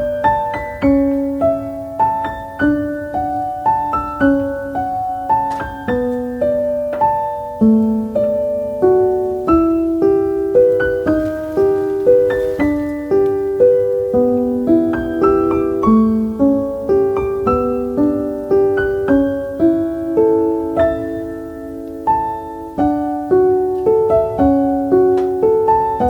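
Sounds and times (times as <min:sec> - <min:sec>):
slow gentle piano melody: 0:00.0 - 0:26.0.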